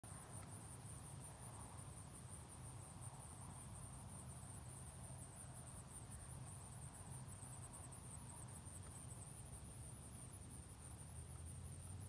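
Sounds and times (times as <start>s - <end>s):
high-pitched insect chorus: 0.1s - 12.0s.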